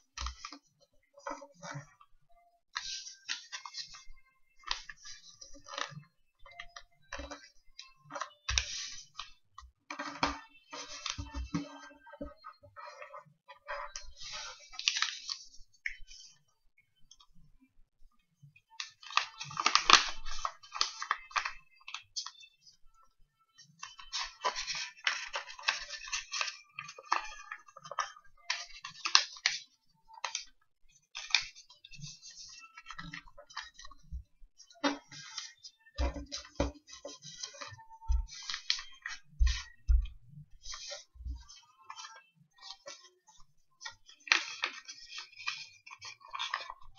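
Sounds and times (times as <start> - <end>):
paper rustling and crinkling: 0.1 - 0.7, 2.7 - 6.0, 6.6 - 9.4, 10.0 - 11.7, 13.8 - 16.4, 18.8 - 22.4, 23.8 - 46.9.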